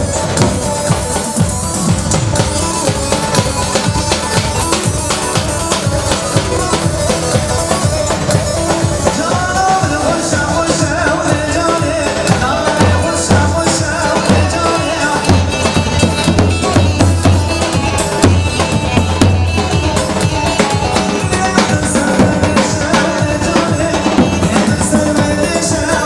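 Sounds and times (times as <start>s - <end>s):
bass drum beating: 0.0s - 26.0s
live dance music: 0.0s - 26.0s.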